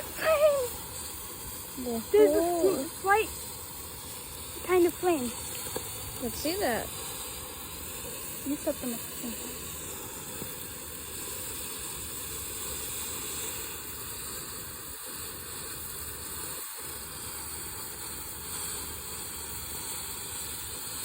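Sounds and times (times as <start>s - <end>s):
fireworks hissing: 0.0s - 21.0s.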